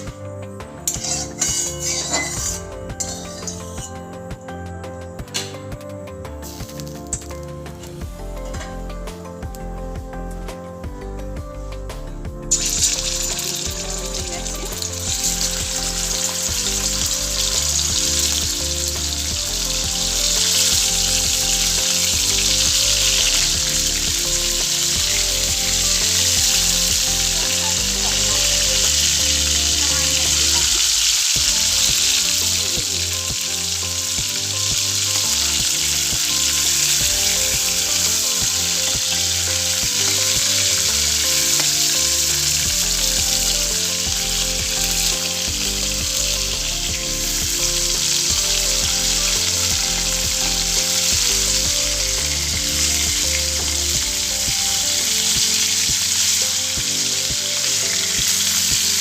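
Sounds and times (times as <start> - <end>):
food sizzling in hot oil: 0.8 - 4.0, 12.5 - 59.0.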